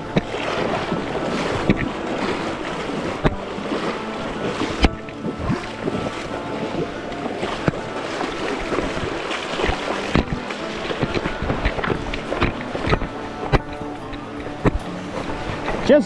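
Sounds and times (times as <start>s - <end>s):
sharp splashes and knocks: 0.0s - 16.0s
stream water rushing: 0.0s - 16.0s.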